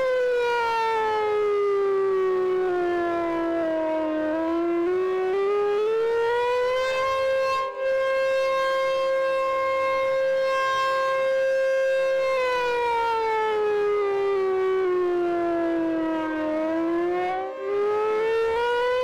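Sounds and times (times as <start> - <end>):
warning siren rising and falling: 0.0 - 19.0.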